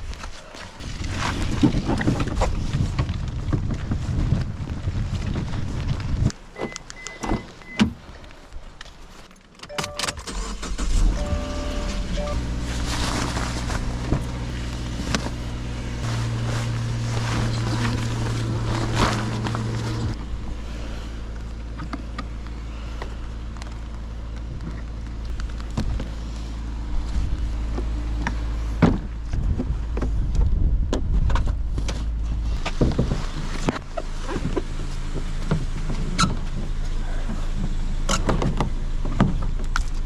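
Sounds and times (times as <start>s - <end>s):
vehicle engine humming: 0.6s - 40.0s.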